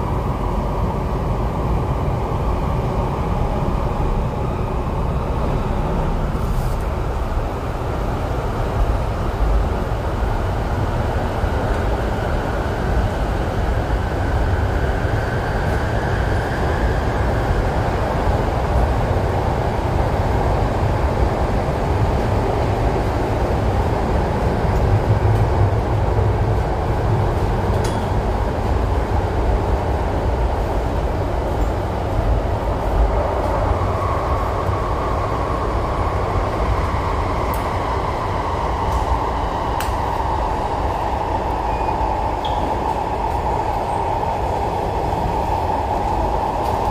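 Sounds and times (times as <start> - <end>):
faint train whine: 0.0 - 46.9
train wheels rumbling on track: 0.0 - 46.9.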